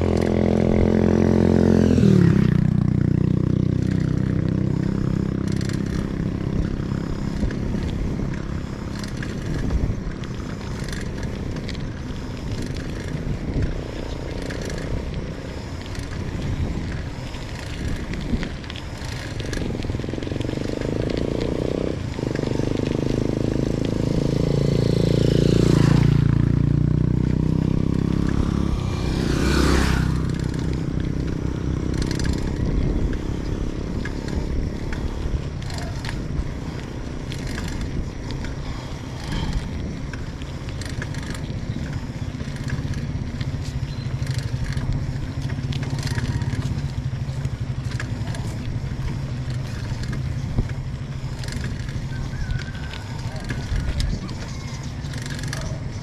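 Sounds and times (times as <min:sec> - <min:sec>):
road noise: 0:00.0 - 0:56.0
vehicle engine running: 0:00.0 - 0:56.0
wind noise: 0:00.0 - 0:56.0.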